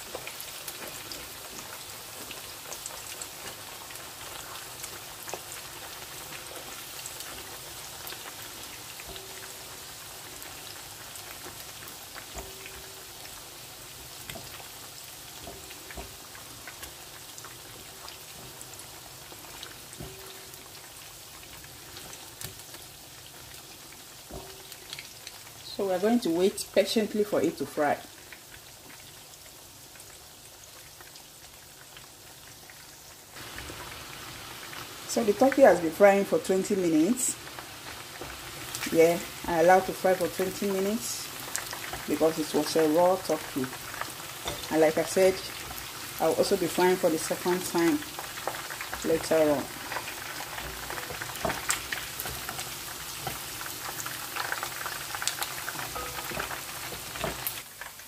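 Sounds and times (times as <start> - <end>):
oil sizzling and popping: 0.0 - 58.0.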